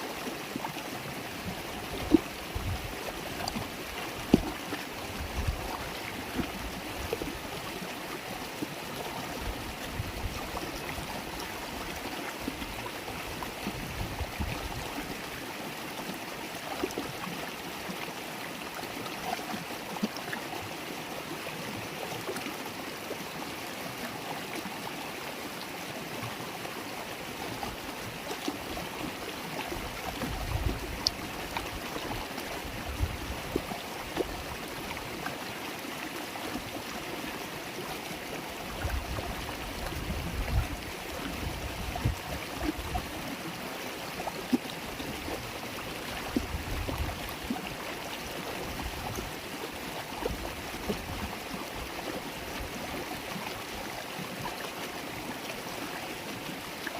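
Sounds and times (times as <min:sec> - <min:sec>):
river water babbling: 0:00.0 - 0:56.9.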